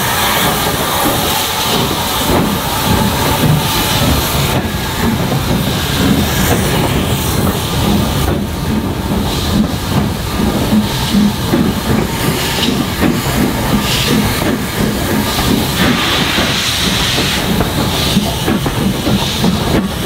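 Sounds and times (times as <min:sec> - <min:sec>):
rhythmic rail clatter: 0:00.0 - 0:20.0
steam train rumble and hiss: 0:00.0 - 0:20.0.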